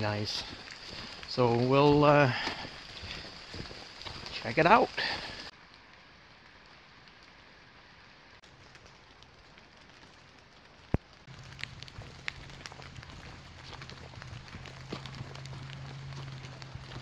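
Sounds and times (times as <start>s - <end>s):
water drops pattering on leaves: 0.0s - 17.0s.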